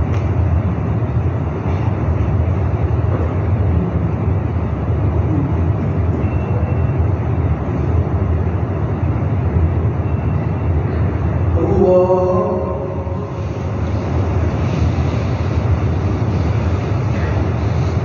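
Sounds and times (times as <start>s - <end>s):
ceiling fans and air conditioning drone: 0.0s - 18.0s.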